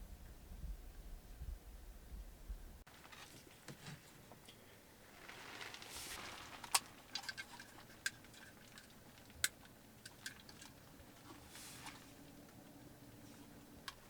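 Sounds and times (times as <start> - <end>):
soft rustling hiss: 2.7 - 14.0.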